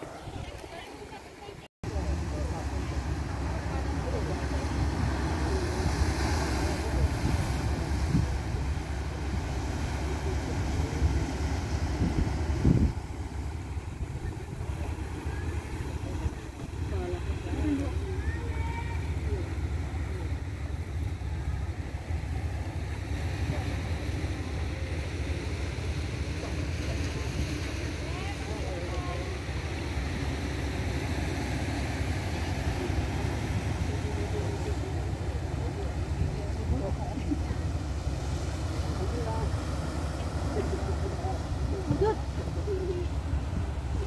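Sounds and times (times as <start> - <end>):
surf washing against rocks: 0.0 - 44.0
wind rumbling on microphone: 0.0 - 44.0.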